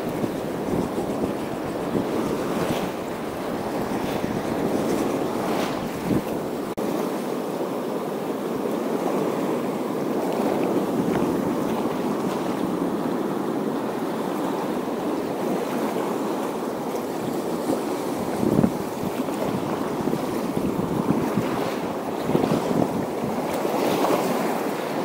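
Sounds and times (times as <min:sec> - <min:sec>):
surf washing on rocks: 0:00.0 - 0:25.0.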